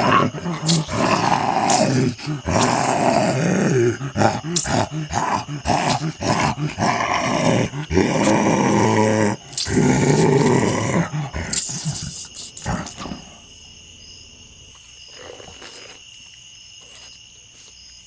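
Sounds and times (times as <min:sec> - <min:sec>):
creature snarling and growling: 0:00.0 - 0:16.0.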